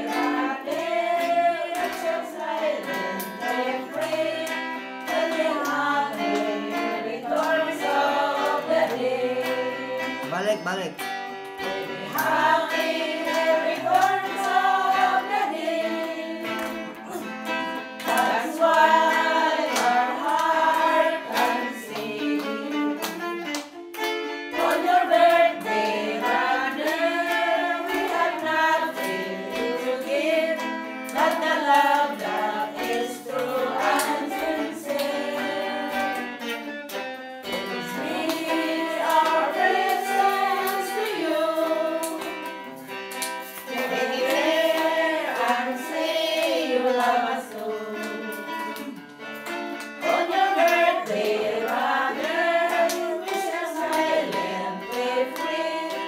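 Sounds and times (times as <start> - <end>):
voices singing: 0.0 - 10.9, 11.6 - 23.2, 24.5 - 36.4, 37.5 - 42.9, 43.6 - 49.0, 50.0 - 56.0
guitar accompaniment: 0.0 - 56.0.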